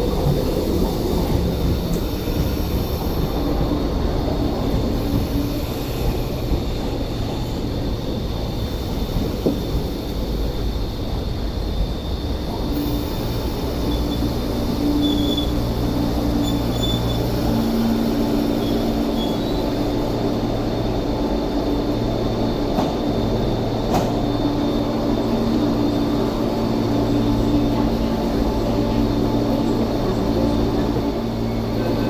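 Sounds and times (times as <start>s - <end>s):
electric train humming: 0.0s - 32.0s.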